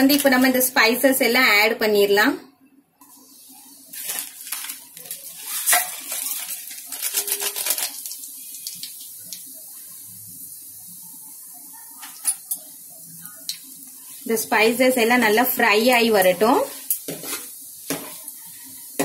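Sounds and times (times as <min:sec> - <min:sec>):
spices sizzling in hot ghee: 0:03.0 - 0:19.0.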